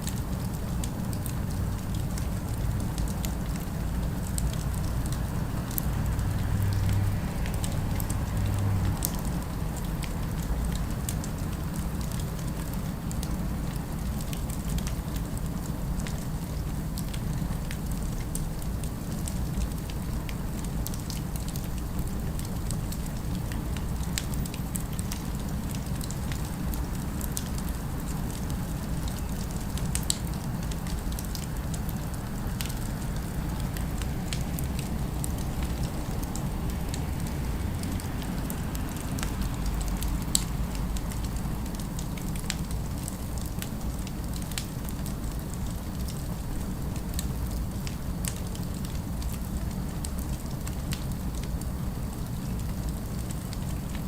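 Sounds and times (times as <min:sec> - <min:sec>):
fireplace crackling and popping: 0:00.0 - 0:54.0.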